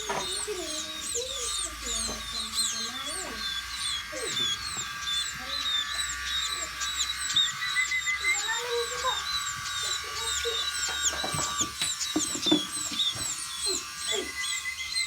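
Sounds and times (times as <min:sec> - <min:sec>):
flock of birds chirping: 0:00.0 - 0:15.0.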